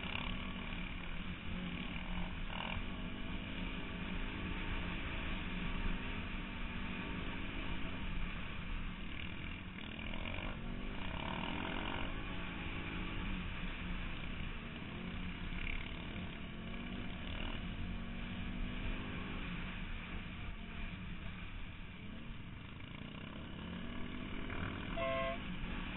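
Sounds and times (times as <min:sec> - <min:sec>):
quad bike engine: 0:00.0 - 0:25.9.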